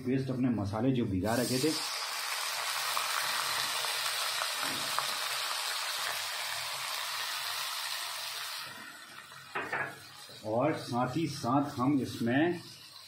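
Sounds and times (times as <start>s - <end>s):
paste sizzling in hot oil: 1.2s - 13.0s.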